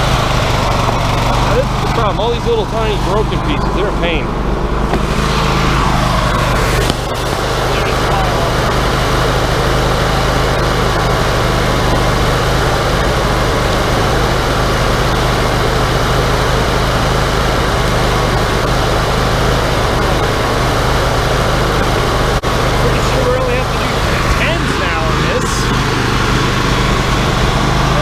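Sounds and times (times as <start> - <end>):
portable sawmill running: 0.0 - 28.0.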